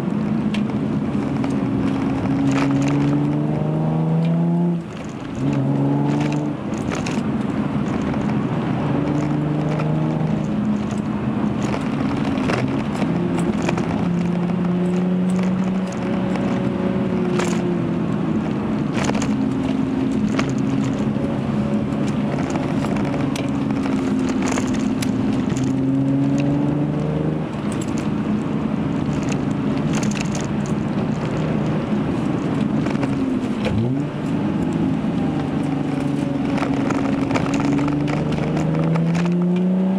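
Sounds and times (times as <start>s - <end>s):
car engine revving in cabin: 0.0s - 39.9s.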